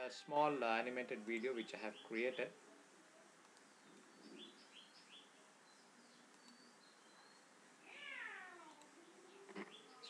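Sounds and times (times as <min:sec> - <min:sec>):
faint bird chirps: 0:01.3 - 0:10.0.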